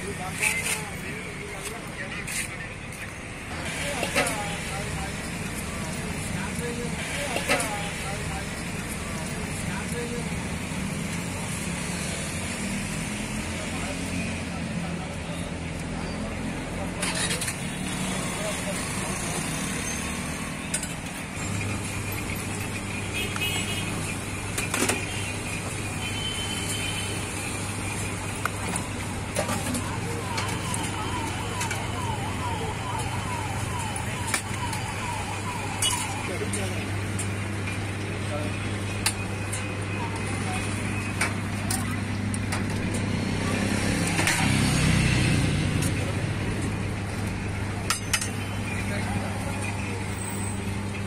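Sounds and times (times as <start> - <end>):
roadside traffic noise: 0.0 - 51.0.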